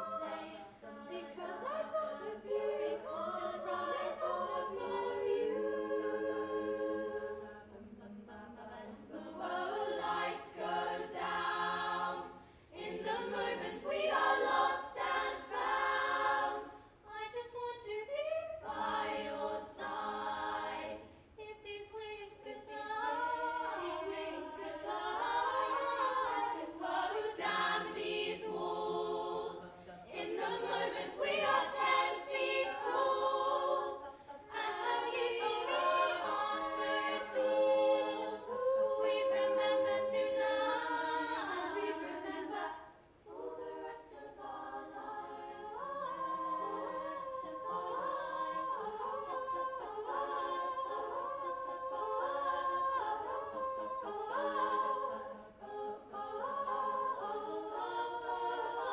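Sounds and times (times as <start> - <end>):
girls singing a cappella harmony: 0.0 - 58.9.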